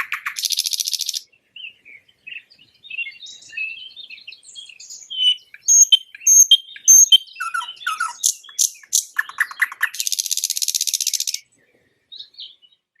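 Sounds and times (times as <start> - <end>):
nightingale singing: 0.0 - 13.0.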